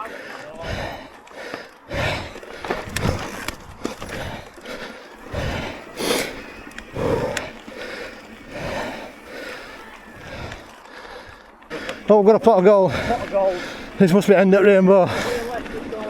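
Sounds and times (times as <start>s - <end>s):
person breathing hard: 0.0s - 15.6s
bike knocking and rattling: 0.3s - 16.0s.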